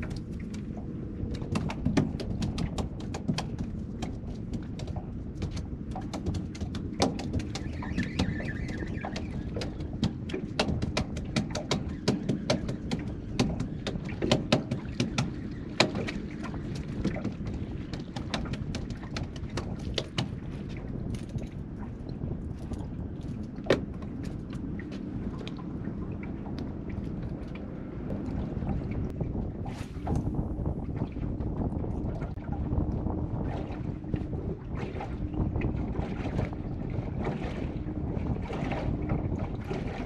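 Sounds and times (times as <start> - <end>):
low rumble of wind and water: 0.0 - 40.0
waves slapping against boat hull: 0.0 - 40.0.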